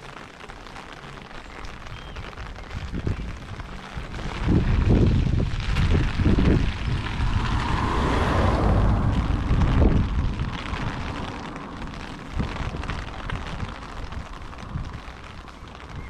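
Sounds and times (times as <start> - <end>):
car tyres hissing on wet road: 0.0 - 16.0
wind buffeting microphone: 1.8 - 16.0.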